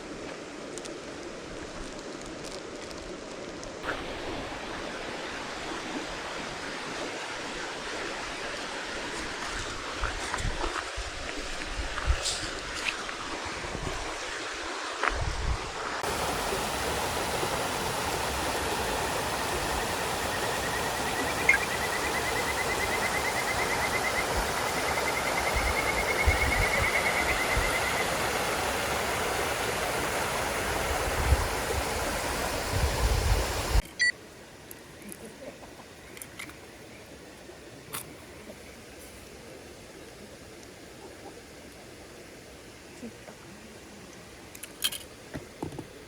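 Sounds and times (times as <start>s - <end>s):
flowing water rushing: 0.0s - 46.0s.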